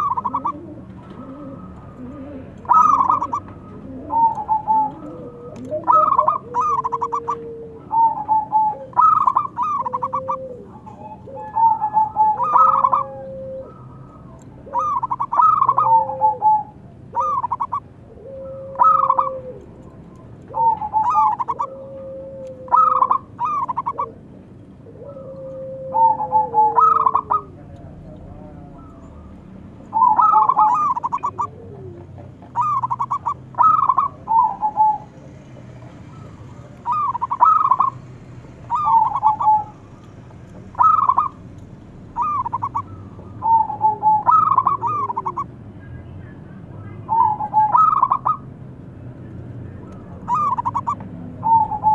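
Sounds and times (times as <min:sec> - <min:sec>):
dove cooing: 0:00.0 - 0:45.6, 0:46.8 - 0:48.6, 0:49.6 - 0:51.9.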